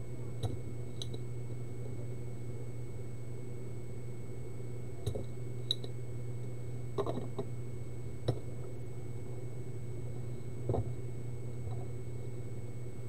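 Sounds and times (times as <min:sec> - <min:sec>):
faint high whine: 0:00.0 - 0:13.0
steady low hum: 0:00.0 - 0:13.0.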